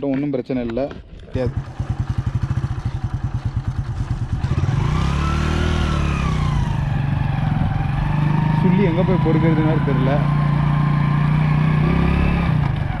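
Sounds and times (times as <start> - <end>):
motorcycle engine revving: 1.3 - 13.0.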